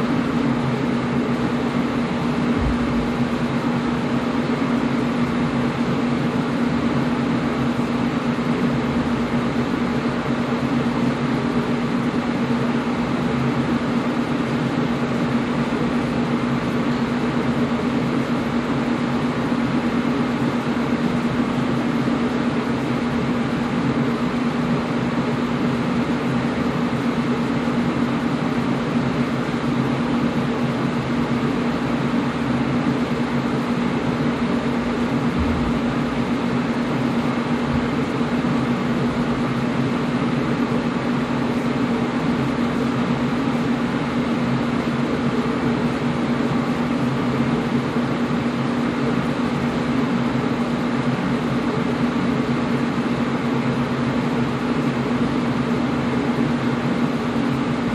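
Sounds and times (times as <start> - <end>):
air conditioner running: 0.0 - 57.9.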